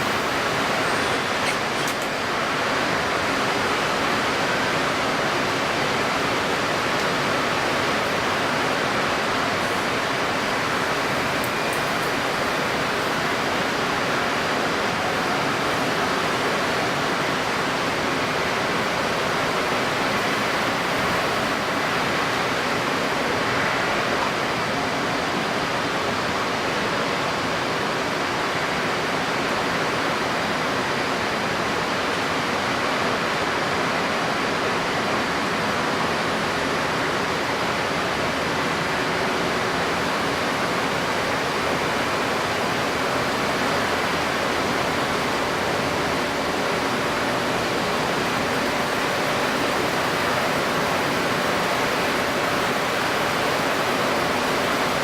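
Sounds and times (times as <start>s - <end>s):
wind-stirred water: 0.0s - 55.0s.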